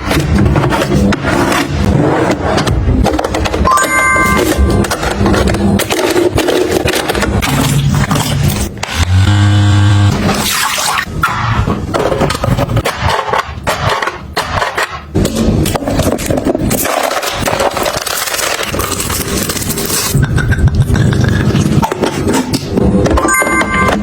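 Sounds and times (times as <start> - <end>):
household items scraping and knocking: 0.0 - 8.9, 11.2 - 24.0.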